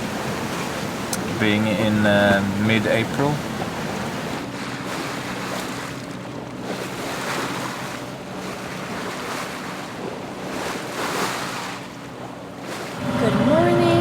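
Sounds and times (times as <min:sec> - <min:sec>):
water rushing along hull: 0:00.0 - 0:14.0.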